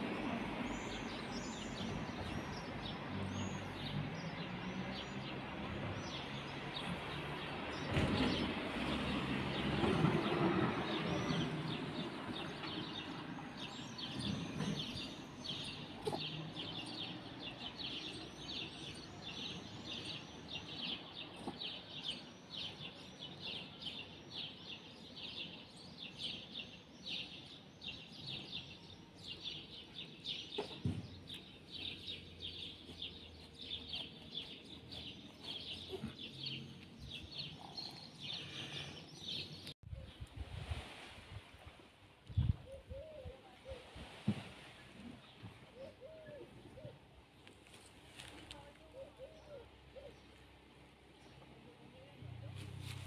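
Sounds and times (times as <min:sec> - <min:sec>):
small birds chirping: 0:00.0 - 0:40.3, 0:45.1 - 0:53.0.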